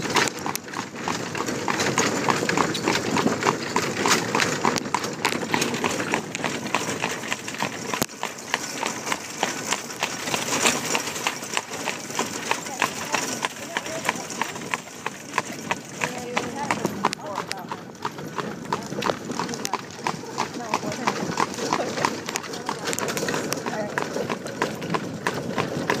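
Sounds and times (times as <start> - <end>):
horse hooves on pavement: 0.0 - 26.0.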